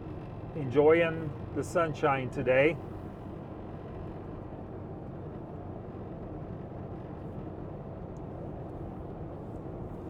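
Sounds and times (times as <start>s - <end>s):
road rumble: 0.0s - 10.0s.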